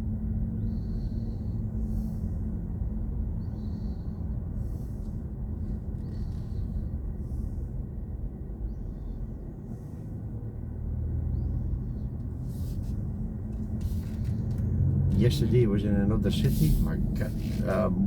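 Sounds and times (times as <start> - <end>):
road and tyre rumble in car: 0.0 - 18.0.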